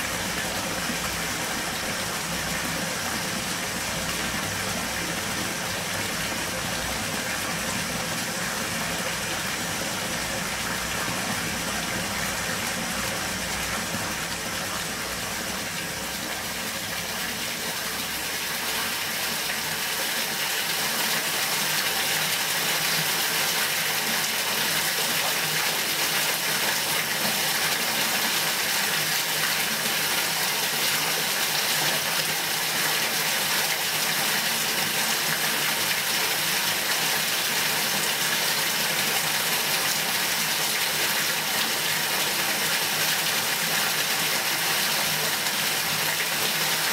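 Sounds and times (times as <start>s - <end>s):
water gushing into bathtub: 0.0s - 46.9s.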